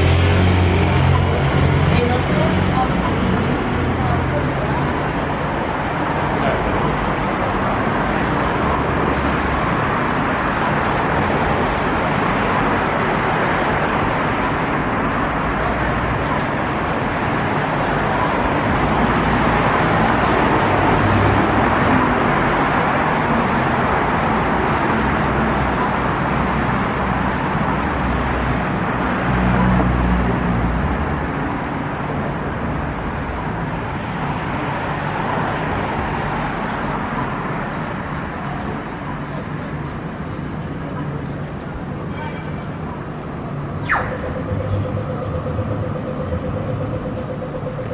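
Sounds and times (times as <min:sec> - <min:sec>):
road traffic noise: 0:00.0 - 0:47.9.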